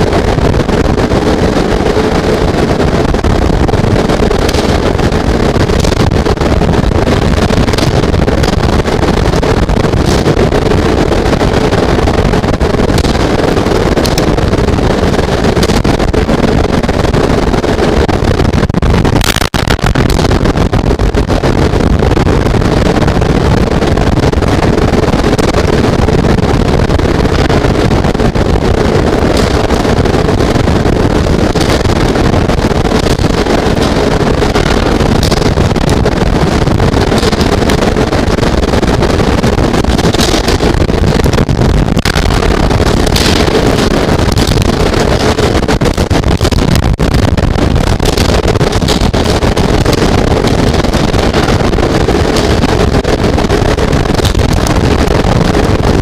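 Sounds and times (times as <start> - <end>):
heavy rain and wind rushing: 0.0 - 56.0.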